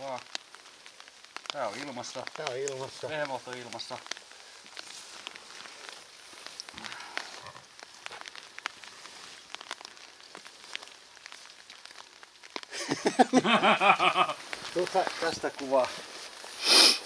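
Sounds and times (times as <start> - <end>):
faint ticks and rustles: 0.0 - 16.6.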